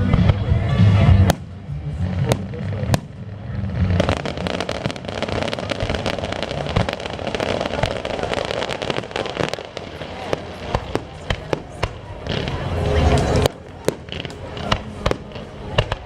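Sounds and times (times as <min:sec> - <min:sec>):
firework bangs: 0:00.0 - 0:16.0
fireworks crackling: 0:00.0 - 0:16.0.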